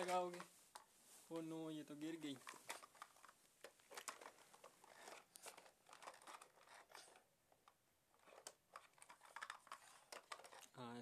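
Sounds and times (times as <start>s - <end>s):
plastic toy cars rustling and clicking: 0.0s - 11.0s.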